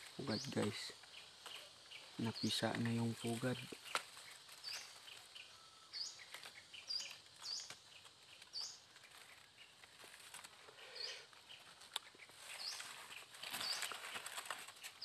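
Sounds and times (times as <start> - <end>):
leaves rustling: 0.0 - 15.0
small bird chirping: 0.0 - 15.0.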